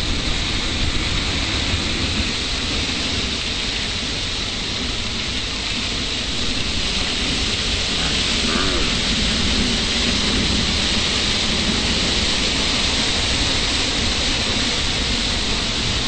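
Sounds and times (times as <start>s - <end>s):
water gushing from fire hydrant: 0.0s - 16.0s.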